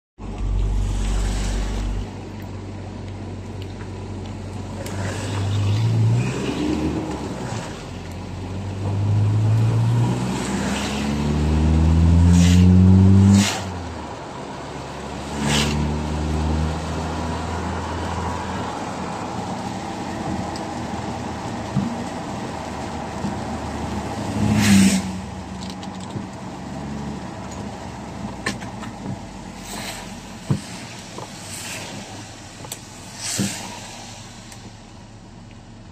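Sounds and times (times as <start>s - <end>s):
vehicle engine accelerating: 0.2s - 2.5s, 4.7s - 35.9s
tyre noise on wet road: 0.2s - 35.9s.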